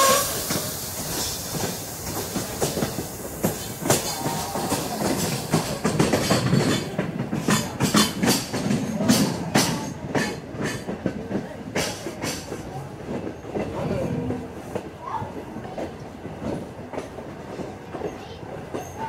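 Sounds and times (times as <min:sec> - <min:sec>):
railroad car knocks and rattles: 0:00.0 - 0:19.0
train wheels clacking on rail joints: 0:00.0 - 0:19.0.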